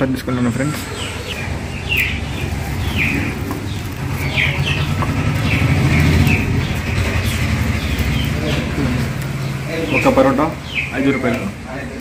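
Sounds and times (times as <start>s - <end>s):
birds chirping: 0.0s - 12.0s
vehicle engine idling: 0.0s - 12.0s.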